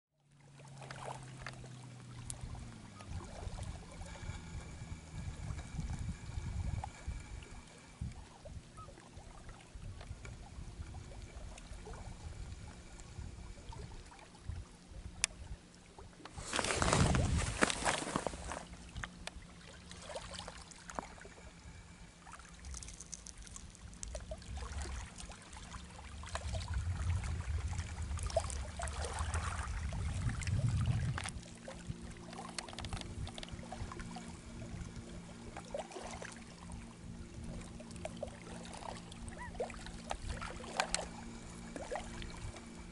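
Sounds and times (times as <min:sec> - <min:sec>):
low uneven rumble: 0:00.2 - 0:42.9
water lapping and splashing: 0:00.2 - 0:42.9.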